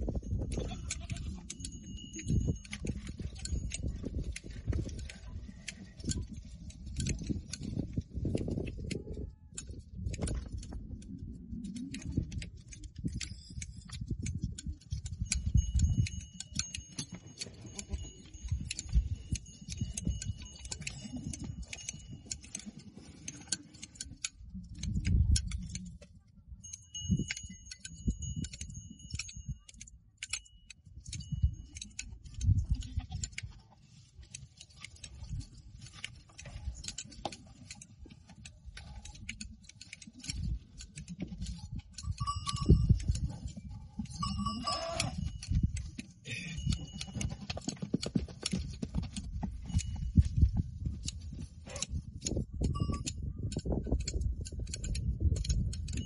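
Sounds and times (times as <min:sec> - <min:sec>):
shears snipping hair: 0:00.4 - 0:47.7, 0:51.0 - 0:56.0.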